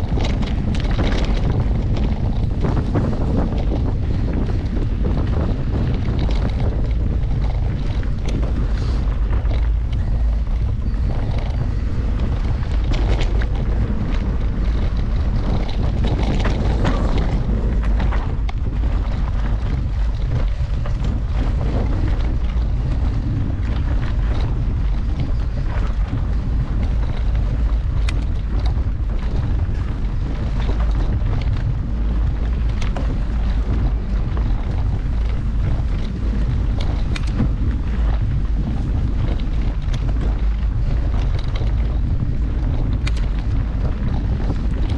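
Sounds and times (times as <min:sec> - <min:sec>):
bike knocks and rattles: 0:00.0 - 0:44.9
wind rumbling over microphone: 0:00.0 - 0:44.9.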